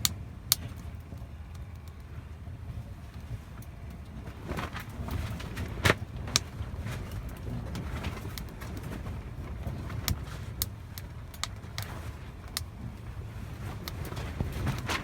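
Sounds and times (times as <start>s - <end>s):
firewood crackling and popping: 0.0s - 2.2s, 3.1s - 15.0s
low steady fire rumble: 0.0s - 15.0s.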